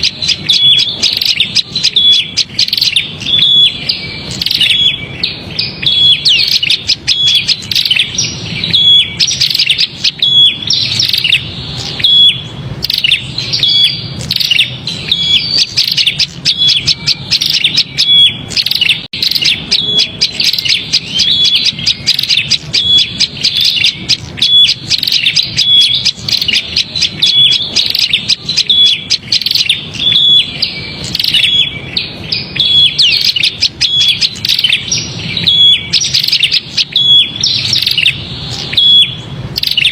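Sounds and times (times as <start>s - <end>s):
bird chattering chirps and trills: 0.0s - 39.9s.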